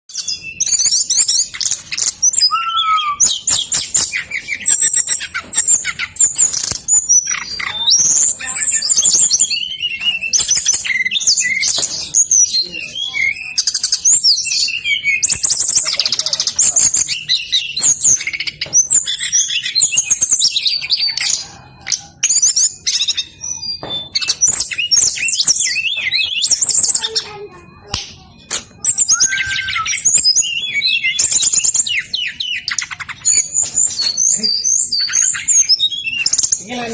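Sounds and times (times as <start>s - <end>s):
bird singing warbled phrases: 0.1s - 36.9s.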